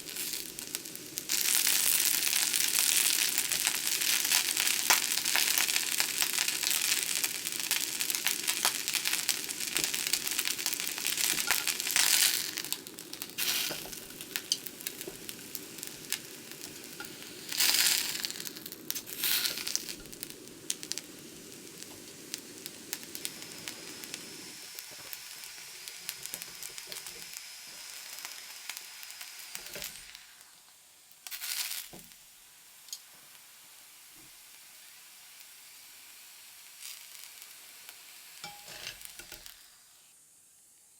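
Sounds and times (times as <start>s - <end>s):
food sizzling in frying: 0.0s - 40.3s.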